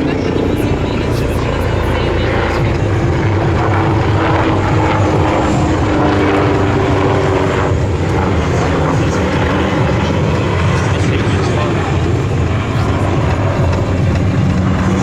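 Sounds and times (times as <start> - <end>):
helicopter rotors and engines: 0.0 - 15.0.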